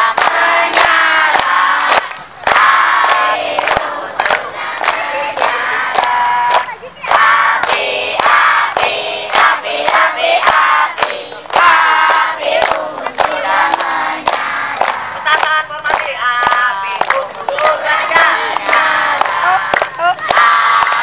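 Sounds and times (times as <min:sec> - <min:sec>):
children singing in unison: 0:00.0 - 0:15.2, 0:17.6 - 0:21.0
sharp hand claps: 0:00.0 - 0:21.0.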